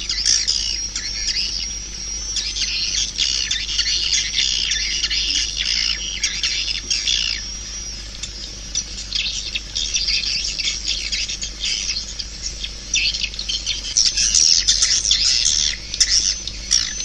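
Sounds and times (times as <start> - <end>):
swiftlets chirping and twittering: 0.0 - 17.0.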